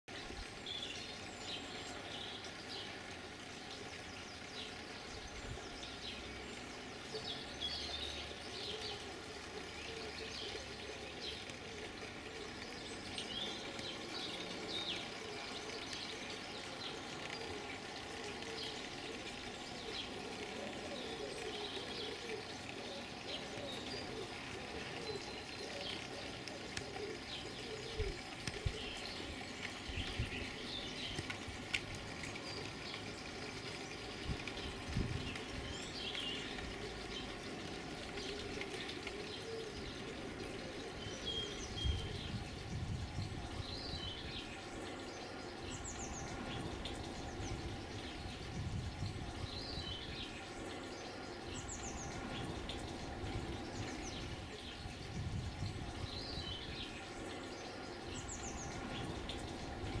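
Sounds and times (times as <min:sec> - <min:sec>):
birds chirping and singing: 0:00.1 - 1:00.0.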